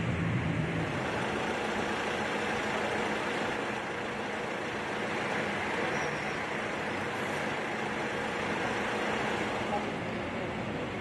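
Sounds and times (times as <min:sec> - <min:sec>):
street background noise: 0:00.0 - 0:11.0
vehicle engine idling: 0:00.0 - 0:11.0.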